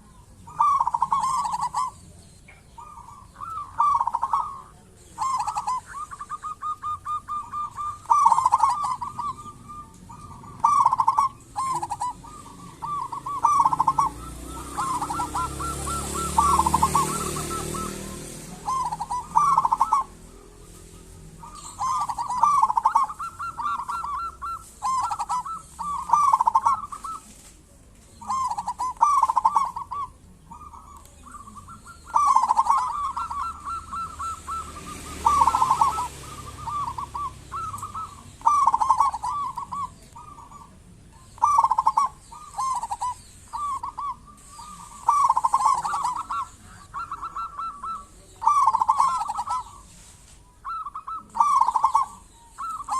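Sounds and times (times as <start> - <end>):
dove cooing song: 0.0 - 52.9.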